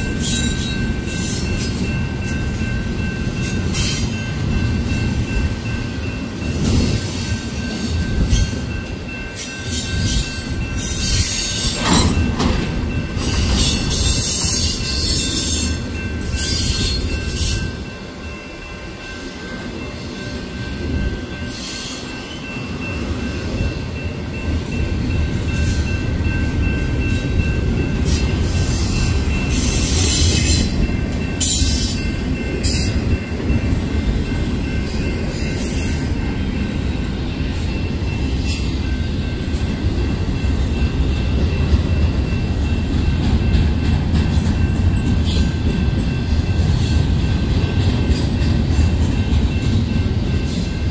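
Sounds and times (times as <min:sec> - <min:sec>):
freight train wheels rumbling: 0:00.0 - 0:50.9.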